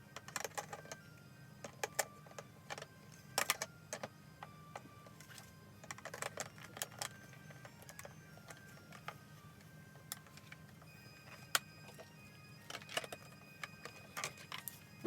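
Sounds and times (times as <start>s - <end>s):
faint background music: 0.0s - 15.0s
clicks and clatter of objects: 0.2s - 1.0s, 1.6s - 9.2s, 10.0s - 15.0s.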